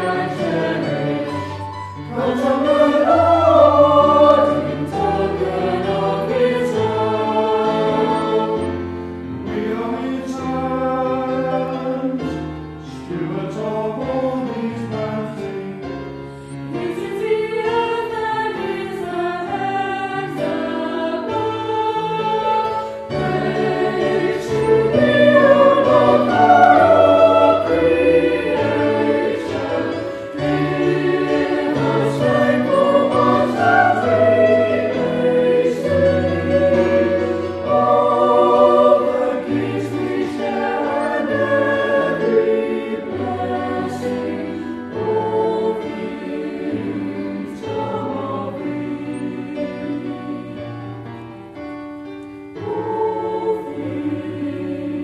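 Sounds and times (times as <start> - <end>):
choir singing sacred music: 0.0 - 55.0.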